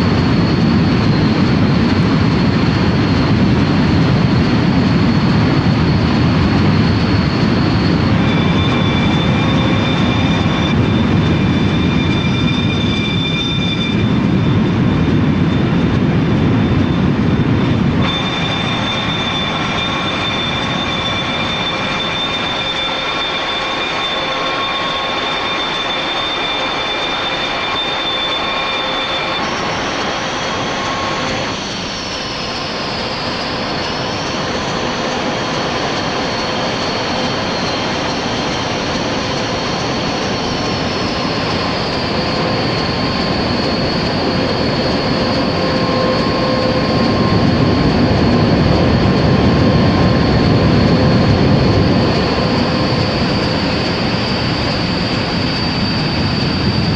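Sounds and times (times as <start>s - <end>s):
jet engines running with whine: 0.0s - 56.9s.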